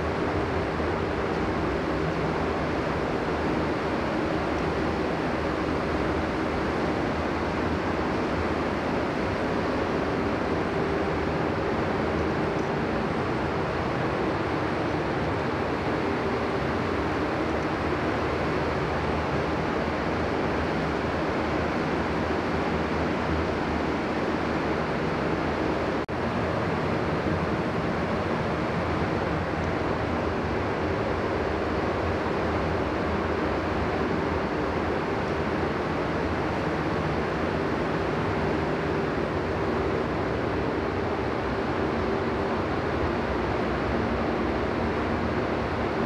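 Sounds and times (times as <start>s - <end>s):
ventilation fans rushing air: 0.0s - 46.0s.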